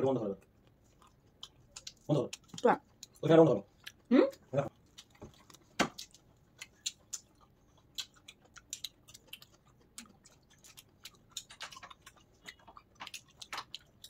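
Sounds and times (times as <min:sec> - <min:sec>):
person chewing food: 0:00.3 - 0:14.0.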